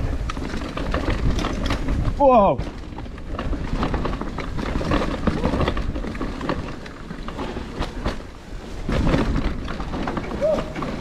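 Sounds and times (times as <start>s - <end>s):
bike clattering over bumps: 0.0s - 11.0s
tyres on loose dirt: 0.0s - 11.0s
wind buffeting microphone: 0.0s - 11.0s.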